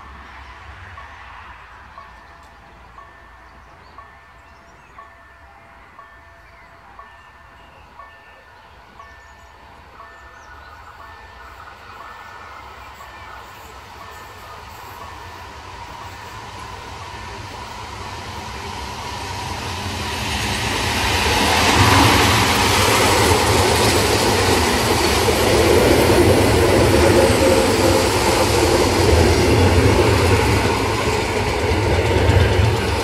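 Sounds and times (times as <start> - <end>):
train wheels rushing on rail: 0.0 - 33.0.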